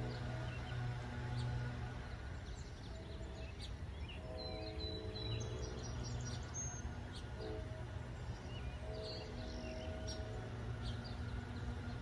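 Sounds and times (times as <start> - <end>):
birds chirping: 0.0 - 12.0
distant locomotive horn blasts: 0.0 - 12.0.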